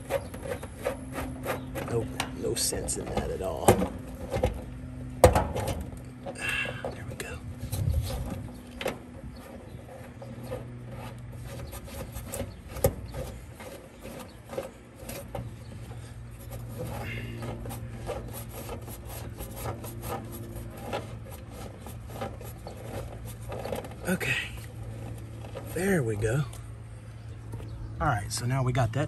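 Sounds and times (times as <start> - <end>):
hands scraping and clicking on wires: 0.0 - 26.8
steady low hum: 0.0 - 29.0.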